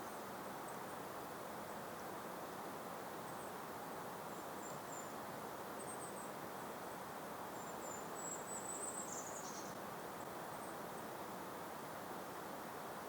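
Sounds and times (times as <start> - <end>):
gentle breeze: 0.0 - 13.0.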